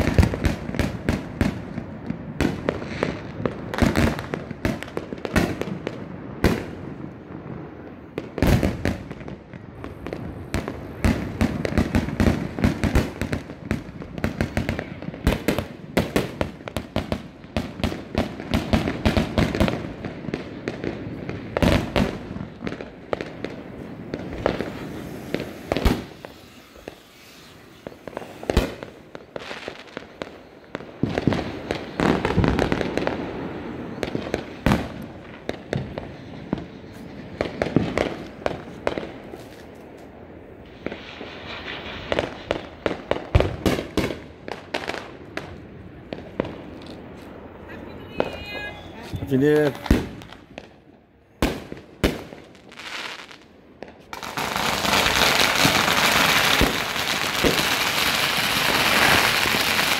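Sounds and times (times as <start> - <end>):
fireworks cracking and banging: 0.0 - 59.9.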